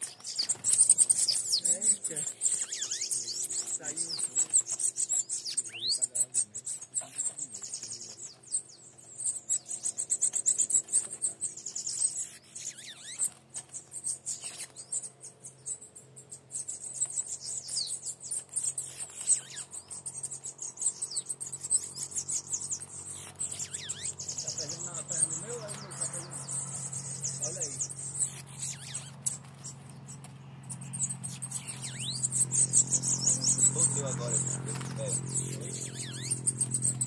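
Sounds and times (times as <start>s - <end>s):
sliding whistled bird calls: 0.0s - 37.0s
songbirds twittering and trilling: 0.0s - 37.0s.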